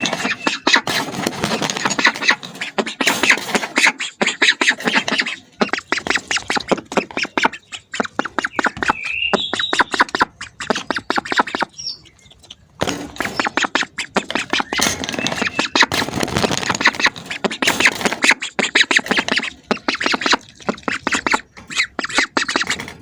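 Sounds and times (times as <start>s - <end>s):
duck bills clicking and smacking: 0.0s - 23.0s.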